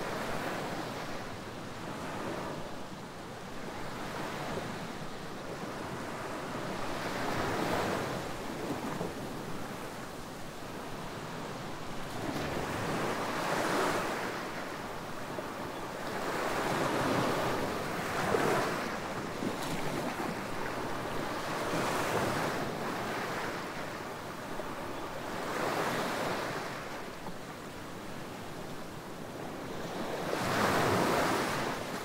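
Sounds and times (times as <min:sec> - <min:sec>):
waves washing on beach: 0:00.0 - 0:32.0.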